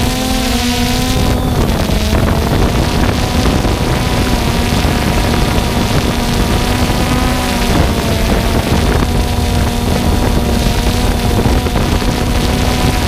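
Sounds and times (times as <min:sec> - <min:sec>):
drone motors and propellers humming: 0:00.0 - 0:13.0
wind buffeting microphone: 0:00.0 - 0:13.0.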